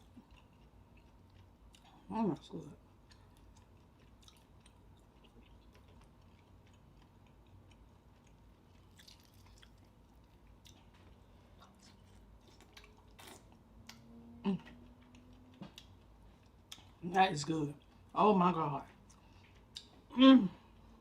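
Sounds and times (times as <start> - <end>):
person chewing: 0.0 - 17.0, 19.0 - 20.0.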